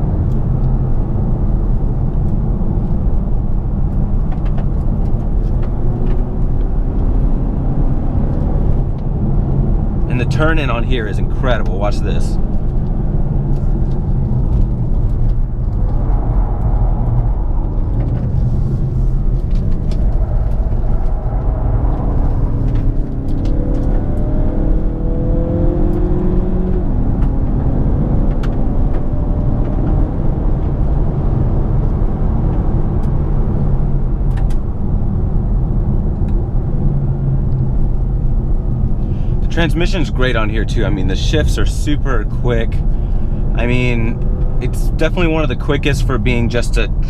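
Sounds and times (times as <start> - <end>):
car engine accelerating: 0.0 - 47.0
road and tyre rumble: 0.0 - 47.0.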